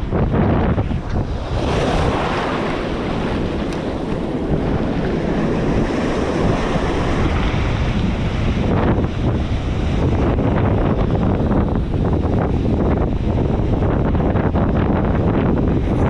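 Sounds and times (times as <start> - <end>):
ocean surf washing: 0.0 - 16.0
wind buffeting microphone: 0.0 - 16.0.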